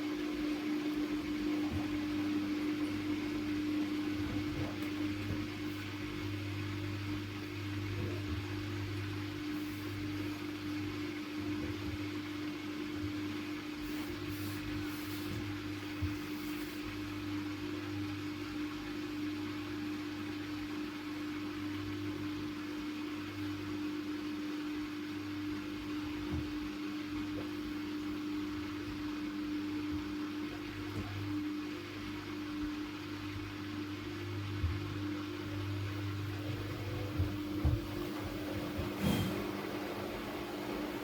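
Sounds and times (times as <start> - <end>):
washing machine humming: 0.0 - 41.0.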